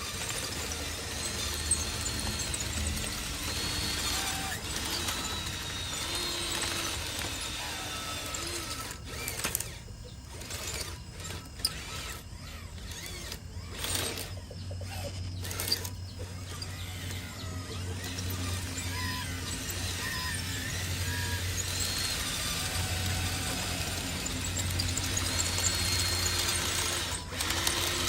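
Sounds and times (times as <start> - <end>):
small electric motors whining: 0.0 - 28.0.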